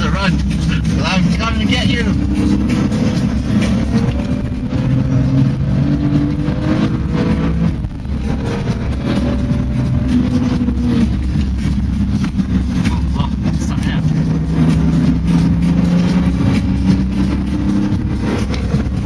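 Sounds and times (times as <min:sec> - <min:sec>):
car engine running hard: 0:00.0 - 0:19.0
road rumble: 0:00.0 - 0:19.0.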